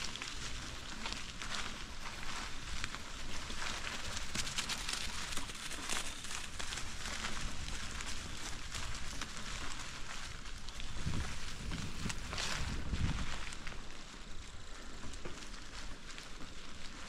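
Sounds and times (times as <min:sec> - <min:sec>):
bicycle tyres crunching leaves: 0:00.0 - 0:17.0.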